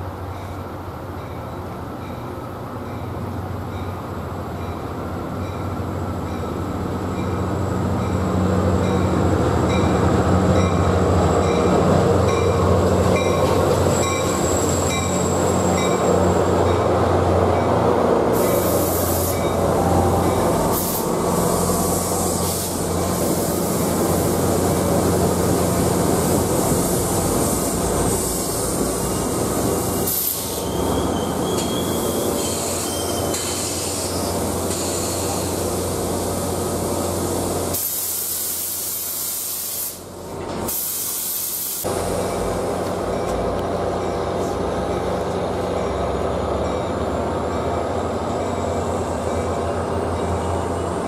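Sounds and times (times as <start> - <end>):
diesel locomotive engine passing: 0.0 - 40.9, 41.6 - 51.0
train wheel and rail noise: 0.0 - 51.0.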